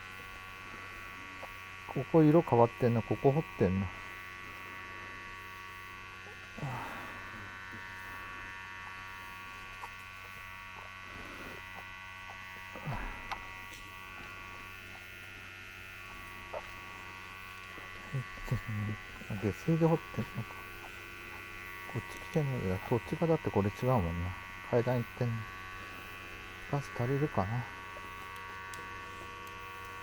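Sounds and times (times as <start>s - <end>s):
steady electric buzz: 0.0s - 30.0s.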